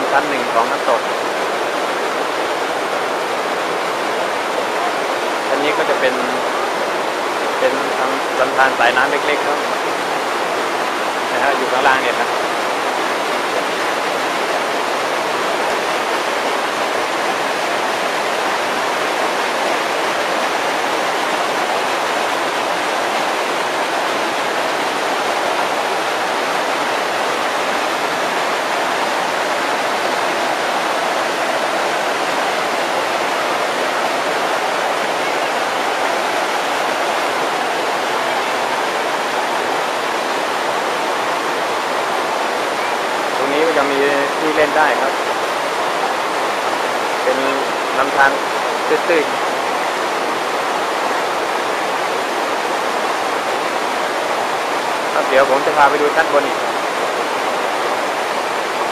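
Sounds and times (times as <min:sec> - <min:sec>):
stream rushing over boulders: 0:00.0 - 0:58.9.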